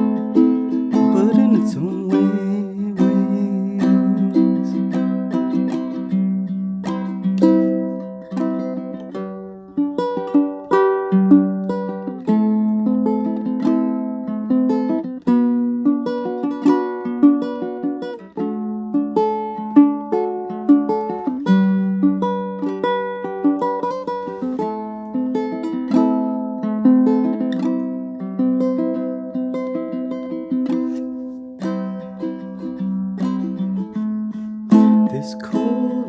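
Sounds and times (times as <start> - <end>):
fingerpicked ukulele: 0.0 - 36.0.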